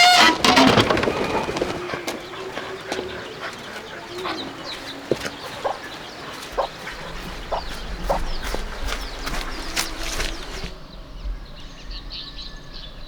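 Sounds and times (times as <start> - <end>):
chickens clucking: 0.0 - 10.8
small birds chirping: 0.0 - 13.0.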